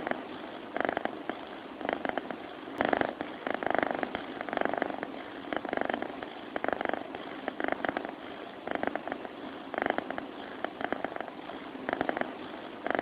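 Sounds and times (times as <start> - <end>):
cat snoring: 0.0 - 13.0.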